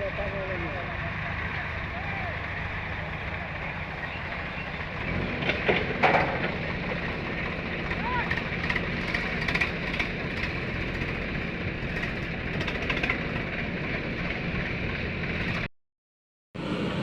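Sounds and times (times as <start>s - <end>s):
heavy diesel engine running: 0.0s - 15.7s, 16.6s - 17.0s.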